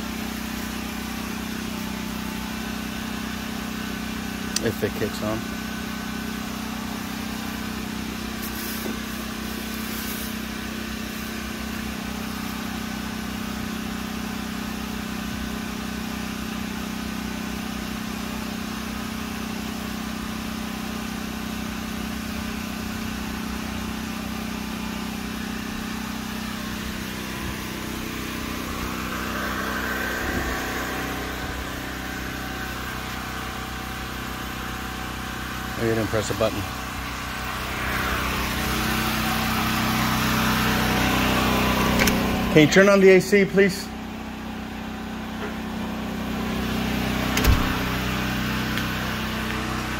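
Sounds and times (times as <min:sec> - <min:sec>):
generator engine humming: 0:00.0 - 0:49.9.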